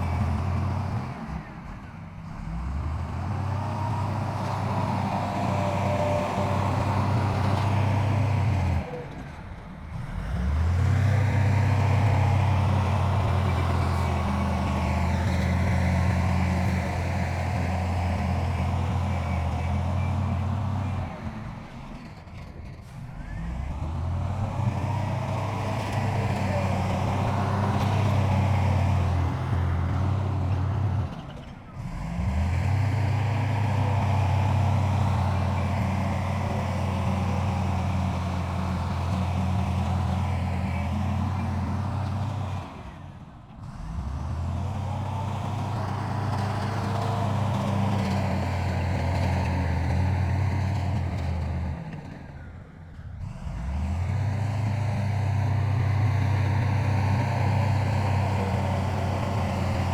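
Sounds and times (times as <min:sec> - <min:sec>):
heavy machinery diesel engines droning: 0:00.0 - 0:59.9.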